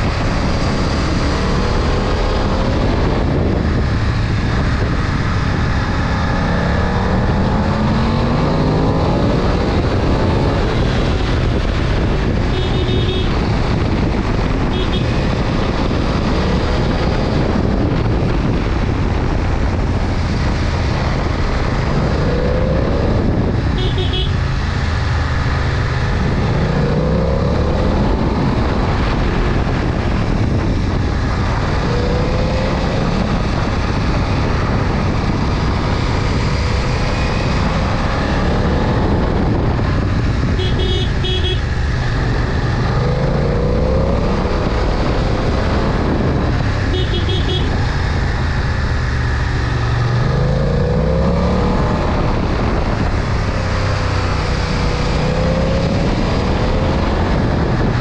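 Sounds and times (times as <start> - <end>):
motorcycle engine accelerating: 0.0 - 58.0
road and wind noise: 0.0 - 58.0.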